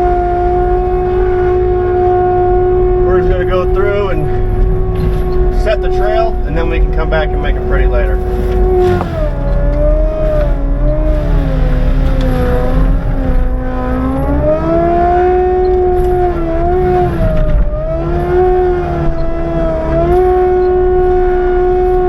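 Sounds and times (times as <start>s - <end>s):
loud engine rumble: 0.0s - 22.0s
mulcher rotor whine: 0.0s - 22.0s.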